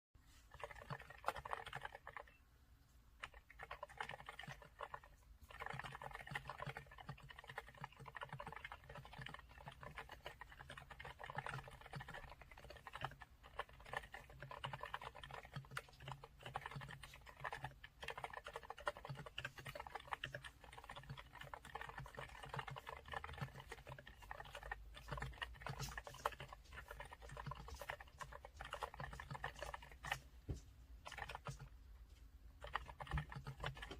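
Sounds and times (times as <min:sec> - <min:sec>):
typing on mechanical keyboard: 0:00.5 - 0:02.4, 0:03.2 - 0:30.3, 0:31.0 - 0:31.8, 0:32.5 - 0:33.9.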